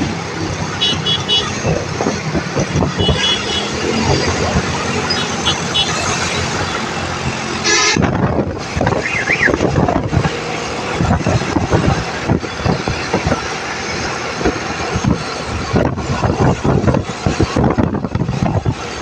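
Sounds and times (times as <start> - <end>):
road traffic at speed: 0.0 - 19.0
wind noise on microphone: 0.0 - 19.0.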